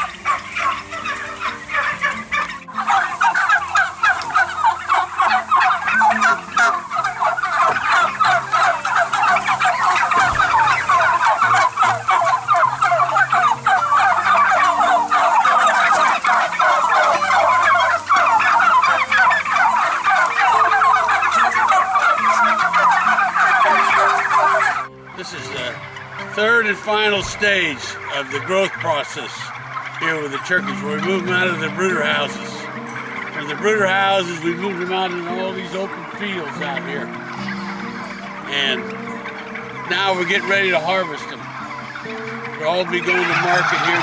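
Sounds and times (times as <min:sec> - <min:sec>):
turkeys gobbling: 0:00.0 - 0:44.0.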